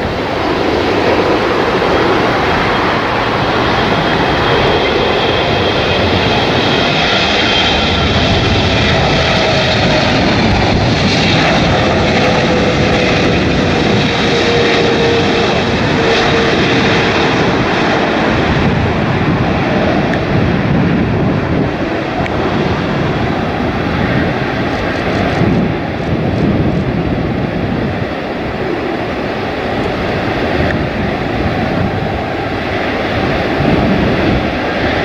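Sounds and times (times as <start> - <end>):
jet engines roaring and whining: 0.0 - 35.0
wind buffeting microphone: 0.0 - 35.0.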